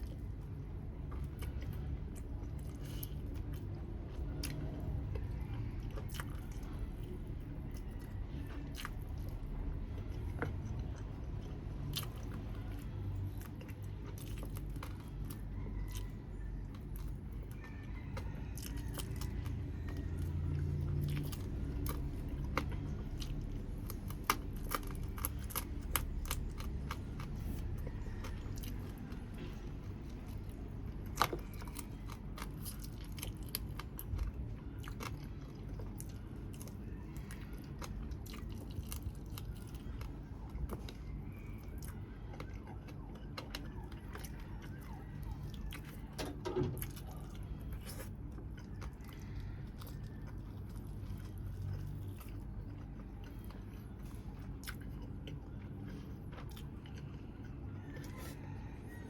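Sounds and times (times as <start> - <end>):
person chewing food: 0.0 - 59.0
steady low hum: 0.0 - 59.0.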